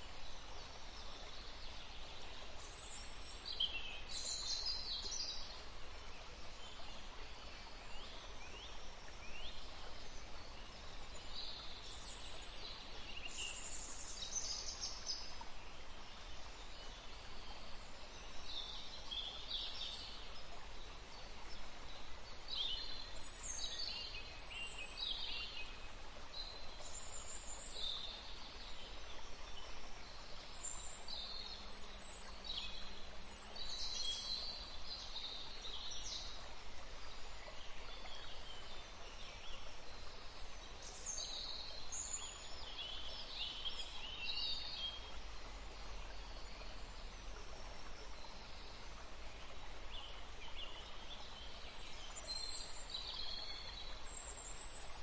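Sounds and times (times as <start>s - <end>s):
faint background noise: 0.0s - 55.0s
songbirds chirping: 0.0s - 55.0s.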